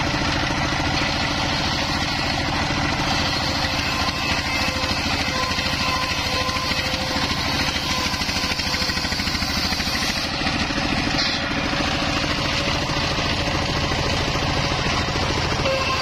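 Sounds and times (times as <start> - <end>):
diesel engine running: 0.0 - 16.0
saw blade cutting wood: 0.0 - 16.0.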